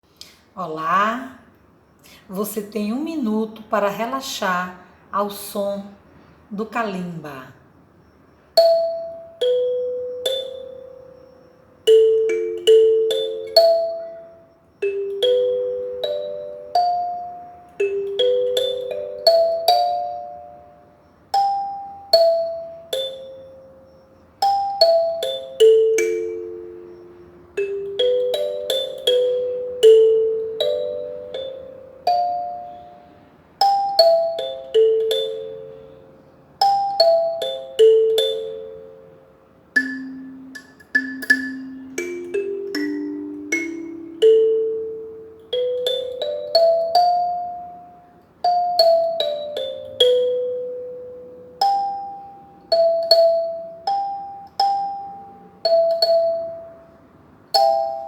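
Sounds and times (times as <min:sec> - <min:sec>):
kalimba melody: 0:08.6 - 0:58.0.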